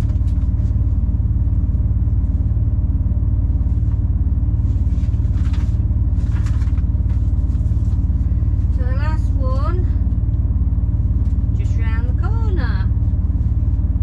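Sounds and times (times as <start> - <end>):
lorry diesel engine running: 0.0 - 14.0.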